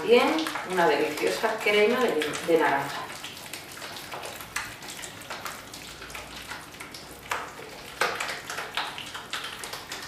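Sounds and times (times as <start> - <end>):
cream stirred in metal bowl: 0.0 - 10.0.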